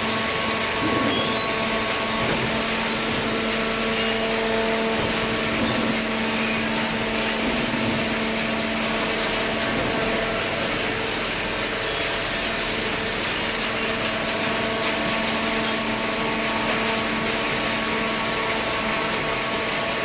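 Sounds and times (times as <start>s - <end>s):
baler machine hum and whirring: 0.0s - 20.0s.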